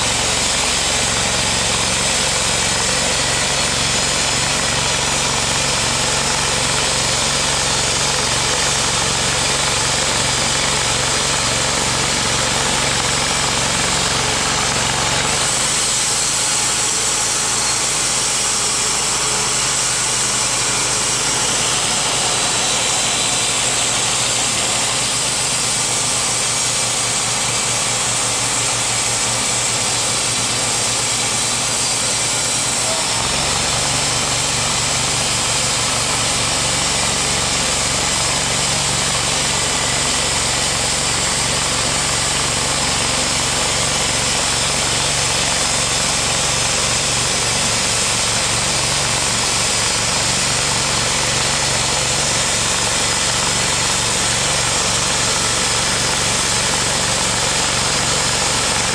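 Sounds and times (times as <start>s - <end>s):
bandsaw mill cutting log: 0.0s - 58.9s.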